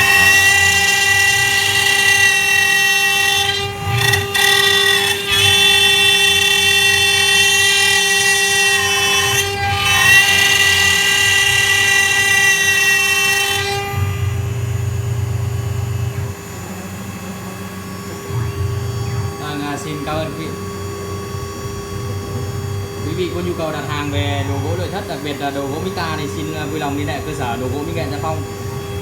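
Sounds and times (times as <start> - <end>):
low machine hum: 0.0 - 29.0
router spindle cutting wood: 0.0 - 29.0.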